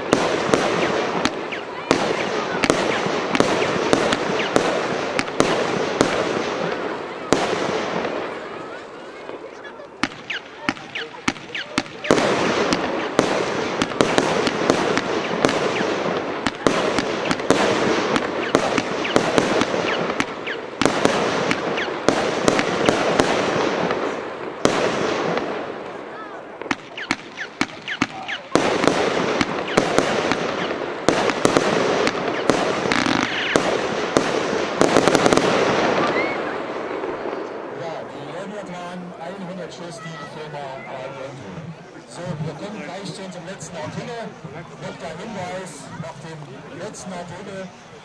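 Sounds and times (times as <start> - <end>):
fireworks crackling: 0.0 - 48.0
fireworks shot reports: 0.0 - 48.0.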